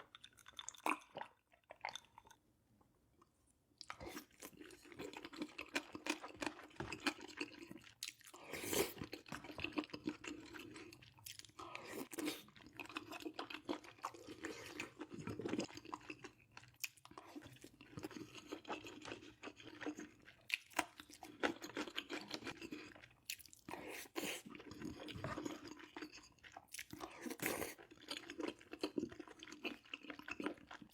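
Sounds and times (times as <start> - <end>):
person chewing food: 0.0 - 2.5, 3.2 - 30.9.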